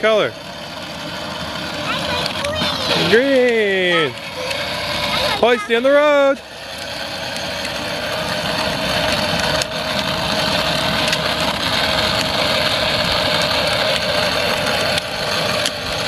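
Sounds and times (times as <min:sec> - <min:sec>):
small motor whining: 0:00.0 - 0:16.0
wheels rolling over ground: 0:00.0 - 0:16.0.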